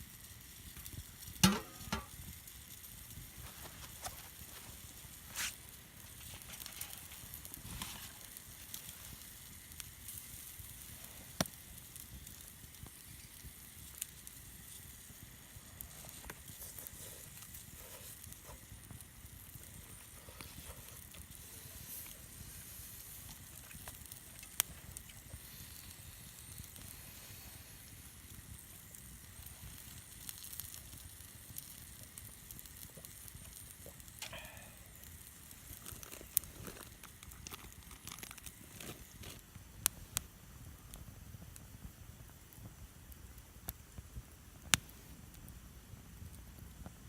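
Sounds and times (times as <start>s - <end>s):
campfire hissing and crackling: 0.0s - 47.0s
fire popping: 0.0s - 47.0s.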